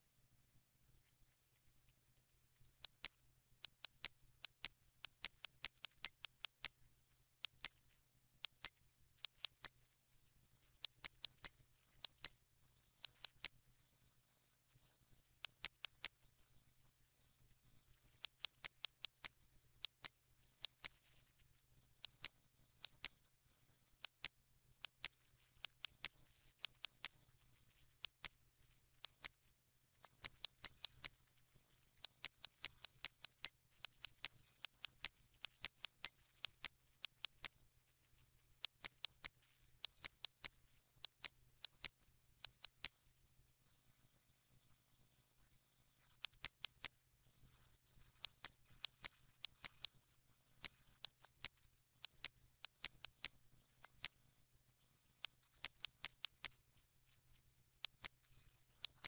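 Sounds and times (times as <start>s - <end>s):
faint low hum: 0.0s - 59.0s
computer mouse clicking: 1.0s - 14.0s, 14.7s - 23.2s, 24.0s - 43.1s, 46.0s - 47.0s, 47.9s - 54.2s, 55.2s - 59.0s.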